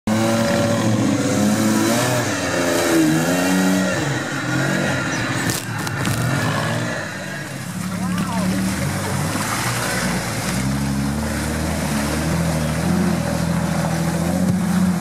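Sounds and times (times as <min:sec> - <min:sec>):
engine revving under load: 0:00.1 - 0:15.0.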